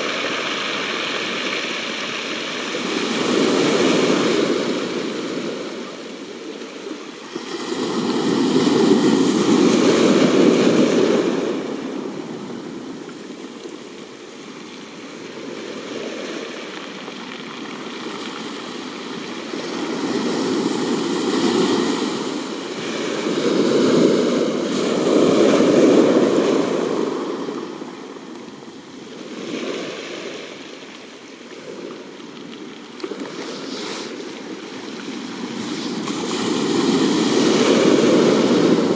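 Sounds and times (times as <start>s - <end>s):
surf washing against rocks: 0.0s - 38.9s.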